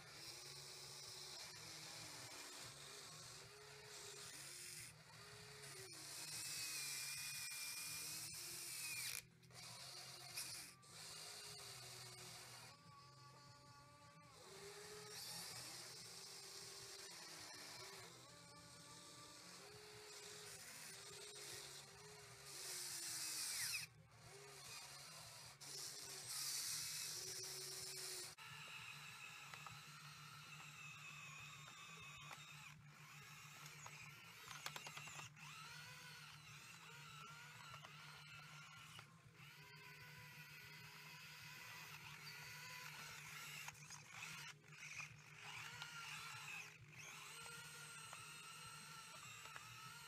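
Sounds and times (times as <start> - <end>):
small electric pump whining: 0.0 - 50.0.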